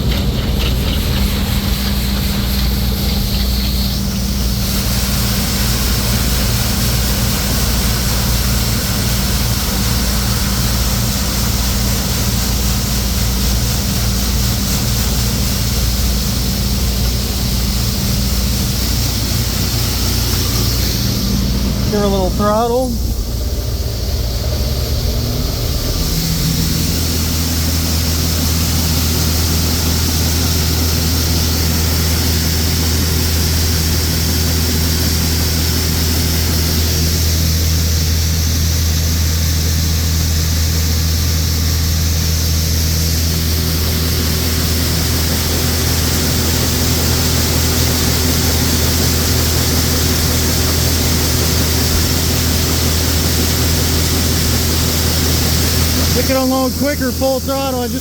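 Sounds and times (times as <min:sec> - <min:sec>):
combine diesel engine drone: 0:00.0 - 0:58.0.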